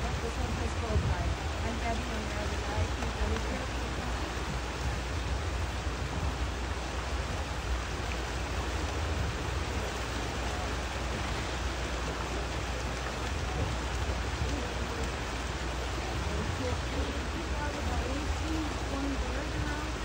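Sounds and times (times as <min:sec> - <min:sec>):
low rumble: 0:00.0 - 0:20.0
stream water over rocks: 0:00.0 - 0:20.0.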